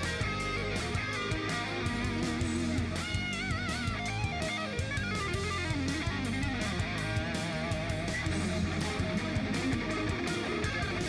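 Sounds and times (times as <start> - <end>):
electric guitar lead with vibrato: 0.0 - 11.0
steady drum beat: 0.0 - 11.0.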